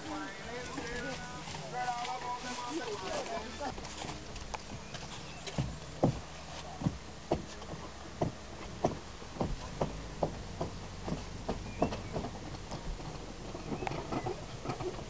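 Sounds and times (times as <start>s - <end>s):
footsteps on grass: 0.0s - 13.7s.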